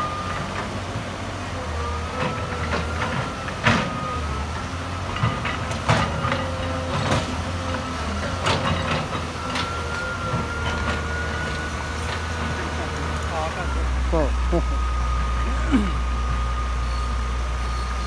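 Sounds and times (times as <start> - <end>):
low diesel engine drone: 0.0 - 18.0.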